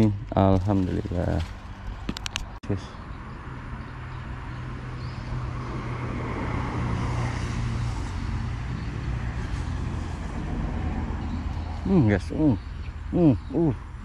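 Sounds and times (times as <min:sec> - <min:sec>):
vehicle passing on highway: 0:00.7 - 0:14.0.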